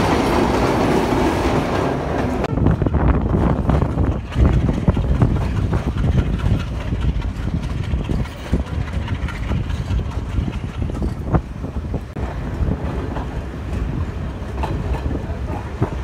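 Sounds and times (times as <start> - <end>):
train rumbling along track: 0.0 - 16.0
wheels clicking and knocking: 2.1 - 16.0.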